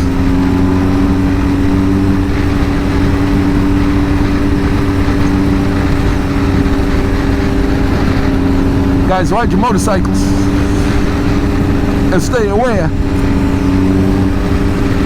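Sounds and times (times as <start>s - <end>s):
motorcycle engine running: 0.0s - 15.0s
road noise: 0.0s - 15.0s
wind noise: 0.0s - 15.0s.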